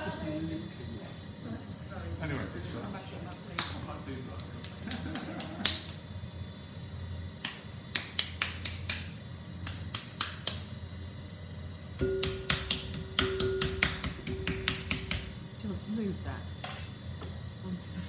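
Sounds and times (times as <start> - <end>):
potter's wheel motor humming: 0.0 - 18.0.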